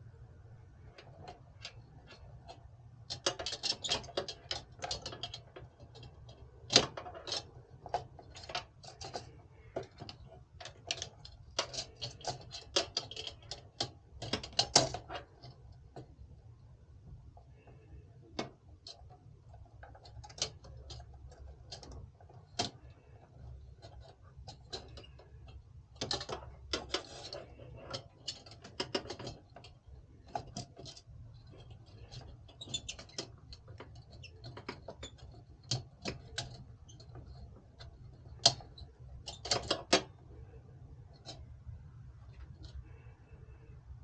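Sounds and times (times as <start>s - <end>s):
small hardware clicking and rattling: 0.8s - 43.7s.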